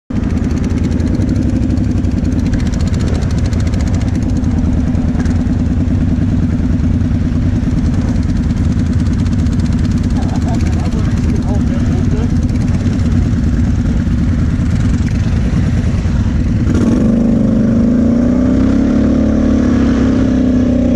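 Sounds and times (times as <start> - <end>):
quad bike engine idling: 0.1 - 18.2.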